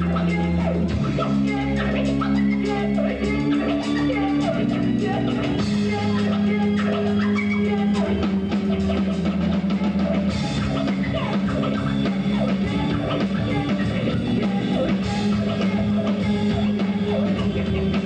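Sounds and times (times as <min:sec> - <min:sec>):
bass guitar: 0:00.0 - 0:18.0
drum kit: 0:00.0 - 0:18.0
live rock band playing: 0:00.0 - 0:18.0.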